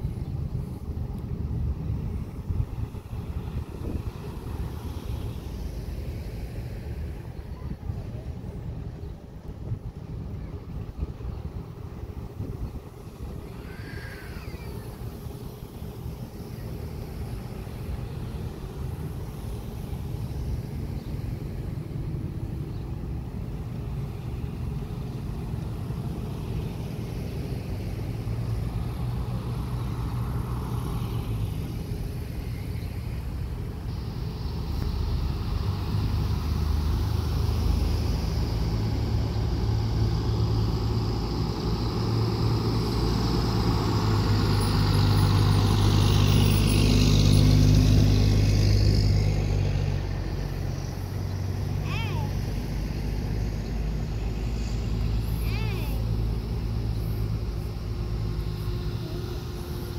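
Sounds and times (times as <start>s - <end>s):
fire engine diesel engine: 0.0s - 59.9s
vehicles passing close by: 0.0s - 59.9s.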